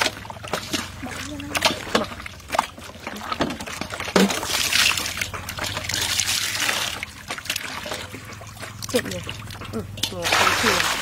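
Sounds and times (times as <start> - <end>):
hands squelching meat in water: 0.0 - 11.0.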